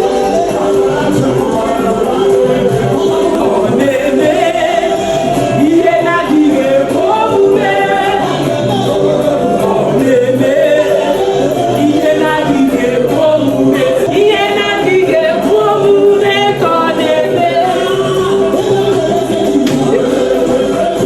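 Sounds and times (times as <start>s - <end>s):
song with singing voices: 0.0s - 21.0s.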